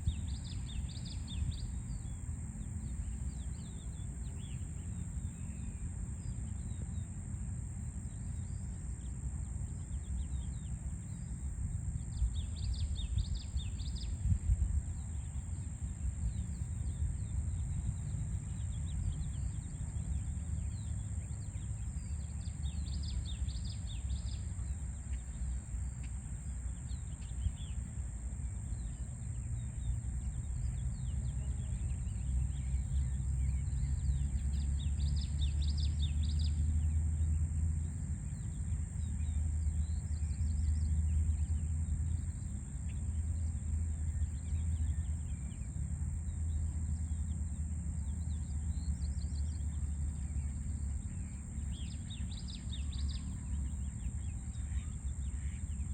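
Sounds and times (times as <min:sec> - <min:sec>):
small birds chirping: 0:00.0 - 0:07.1, 0:09.8 - 0:55.9
constant high hiss: 0:00.0 - 0:55.9.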